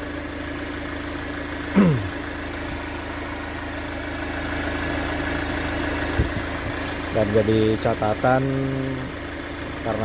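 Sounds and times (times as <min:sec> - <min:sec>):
diesel engine idling with clatter: 0:00.0 - 0:10.0.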